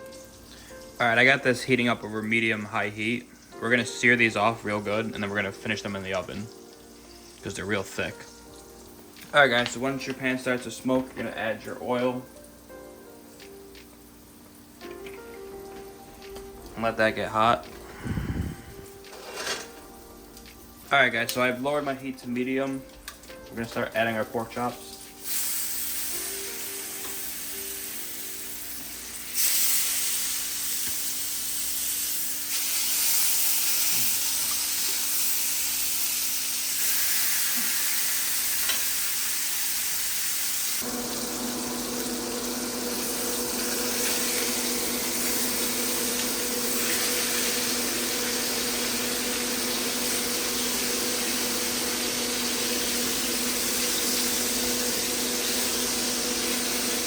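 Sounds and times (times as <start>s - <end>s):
pork searing in hot oil: 0.0s - 57.0s.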